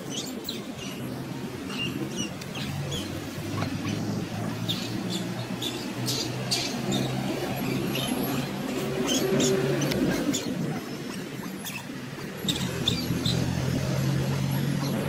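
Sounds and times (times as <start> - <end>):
baby monkey squeaking: 1.8 - 15.0.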